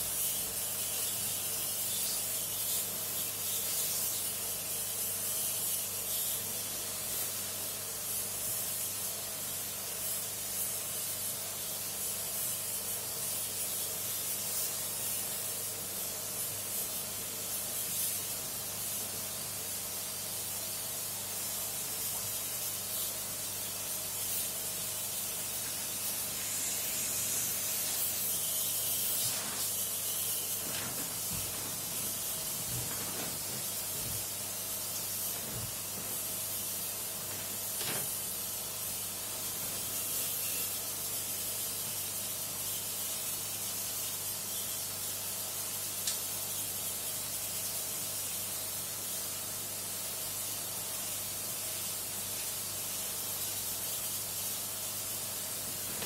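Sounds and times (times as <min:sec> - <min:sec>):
water spraying with a hiss: 0:00.0 - 0:56.0.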